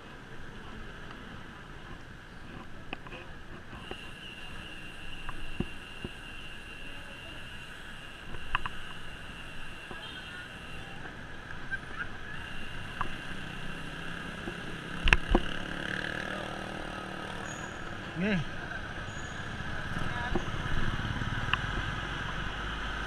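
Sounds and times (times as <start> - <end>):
road and wind noise: 0.0 - 23.0
traffic: 0.0 - 23.0.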